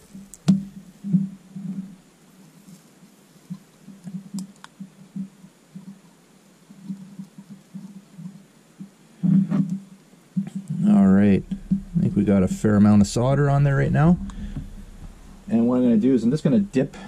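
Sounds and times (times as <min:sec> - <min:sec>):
faint handling sounds: 0:00.0 - 0:17.0.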